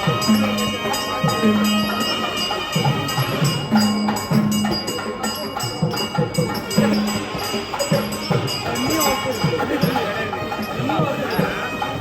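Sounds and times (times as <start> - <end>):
drums beating with pitch-bending strokes: 0.0 - 12.0
jingling bells: 0.0 - 12.0.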